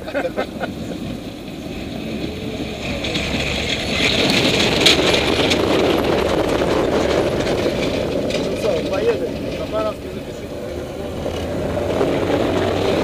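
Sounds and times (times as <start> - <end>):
truck driving on gravel: 0.4 - 13.0.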